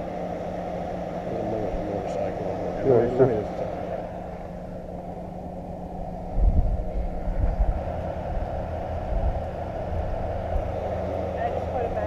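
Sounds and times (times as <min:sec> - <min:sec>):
engine idling: 0:00.0 - 0:12.0
heavy low rumbles: 0:00.0 - 0:12.0.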